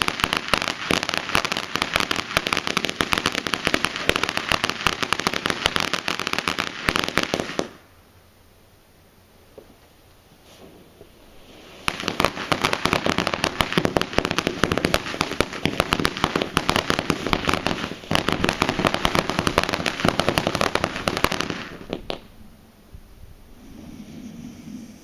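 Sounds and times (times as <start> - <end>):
ground fountain firework crackling: 0.0 - 8.0, 9.4 - 22.6.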